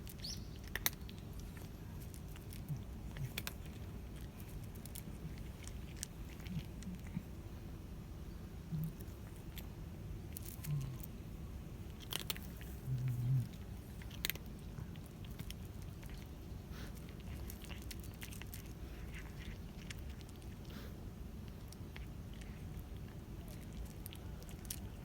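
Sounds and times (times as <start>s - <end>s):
cat crunching food: 0.0s - 25.0s.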